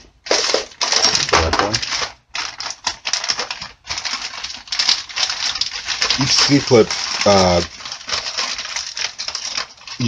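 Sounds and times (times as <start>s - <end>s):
plastic block clicking and rustling: 0.0s - 10.0s.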